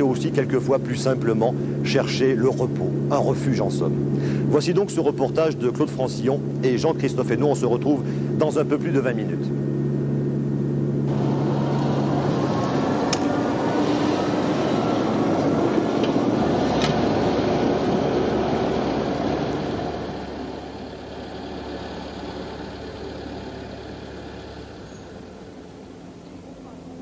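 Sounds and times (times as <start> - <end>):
electric train rumbling: 0.0 - 27.0
faint rising whine: 0.0 - 27.0.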